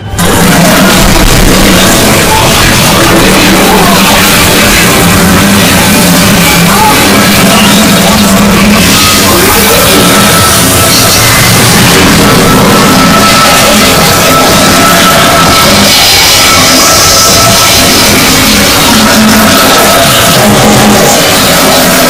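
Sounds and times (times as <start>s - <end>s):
loud rock music: 0.0s - 22.0s.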